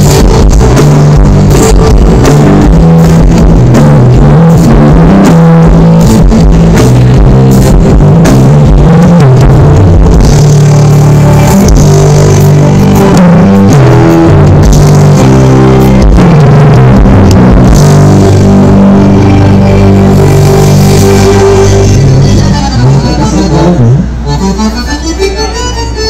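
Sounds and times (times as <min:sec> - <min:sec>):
drum kit beat: 0:00.0 - 0:22.4
bass line: 0:00.0 - 0:26.0
electric guitars: 0:00.0 - 0:26.0.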